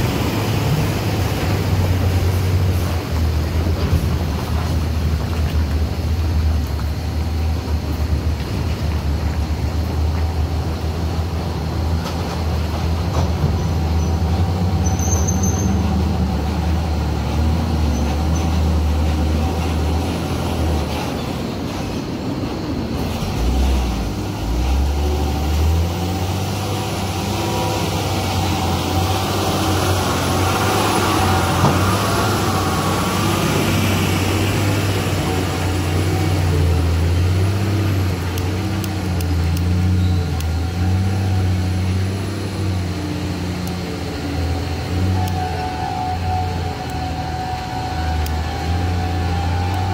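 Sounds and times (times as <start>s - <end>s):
truck engines droning: 0.0s - 49.9s.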